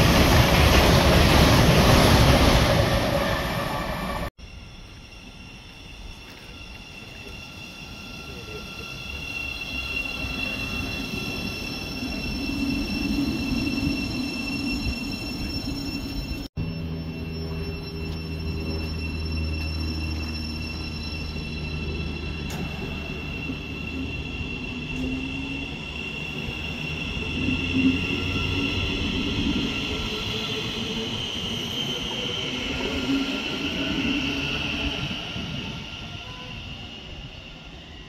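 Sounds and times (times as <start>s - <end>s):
train traction motor whine: 4.4s - 37.7s.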